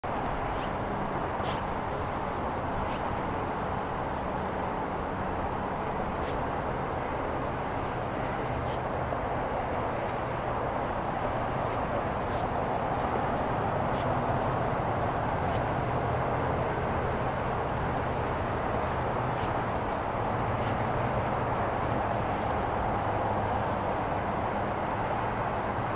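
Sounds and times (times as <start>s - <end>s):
steady outdoor rush: 0.0s - 25.9s
small birds chirping: 0.4s - 25.9s.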